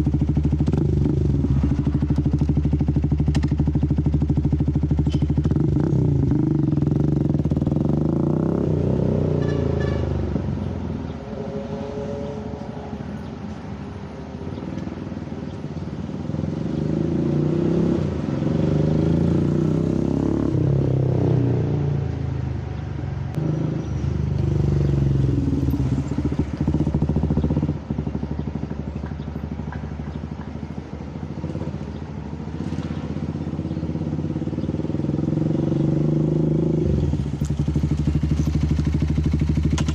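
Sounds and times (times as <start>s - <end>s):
motorcycle engine revving: 0.0s - 10.6s, 16.1s - 22.6s, 23.3s - 39.9s.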